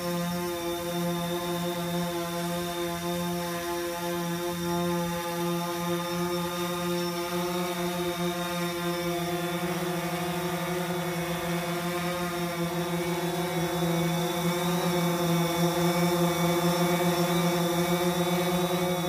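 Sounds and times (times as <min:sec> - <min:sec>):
drone buzzing hum: 0:00.0 - 0:19.0.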